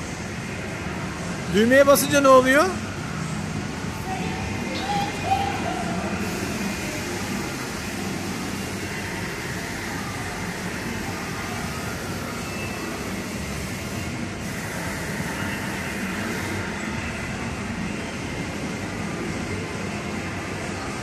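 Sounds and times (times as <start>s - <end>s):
noisy indoor amusement hall: 0.0s - 21.0s
spinning ride mechanical din: 0.0s - 21.0s.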